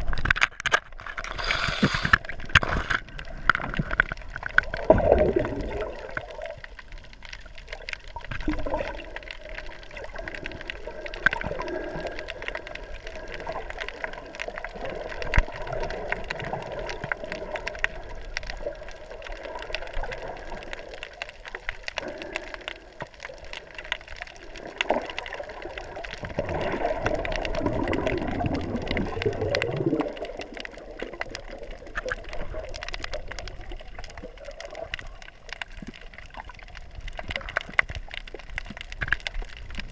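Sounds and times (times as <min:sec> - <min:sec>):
crackle of small clicks: 0:00.0 - 0:39.9
muffled underwater water movement: 0:00.0 - 0:39.9.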